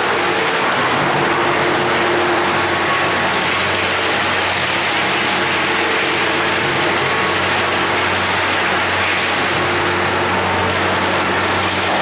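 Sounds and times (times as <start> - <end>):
wood chipper running: 0.0 - 12.0.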